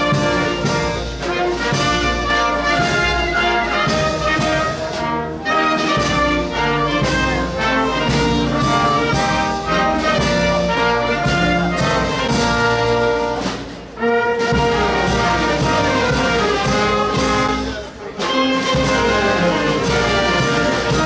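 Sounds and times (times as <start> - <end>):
brass band playing: 0.0 - 21.0
tuba bass: 0.0 - 21.0.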